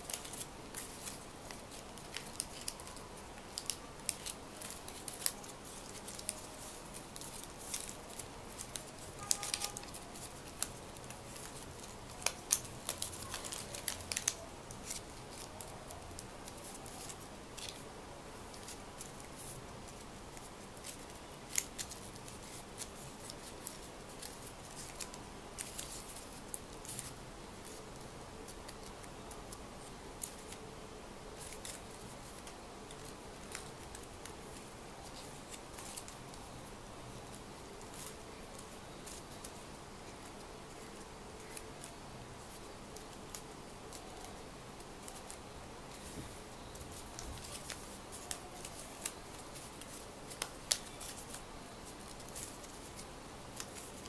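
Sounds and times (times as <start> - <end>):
paper crackling and snipping: 0.0 - 17.8, 18.5 - 30.6, 31.4 - 36.5, 37.2 - 54.0
faint steady hiss: 0.0 - 54.0.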